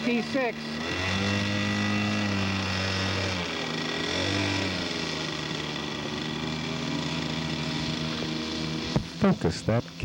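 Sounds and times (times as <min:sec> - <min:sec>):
model airplane engine running: 0:00.0 - 0:10.0.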